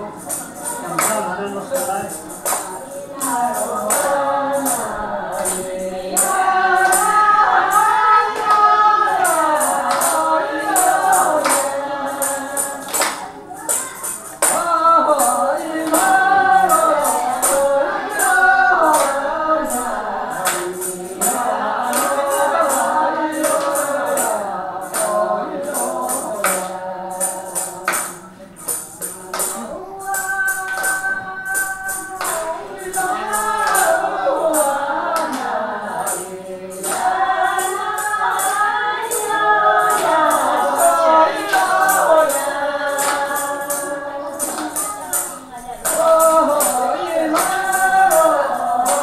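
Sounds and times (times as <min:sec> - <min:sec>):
group of elders singing: 0:00.0 - 0:49.0.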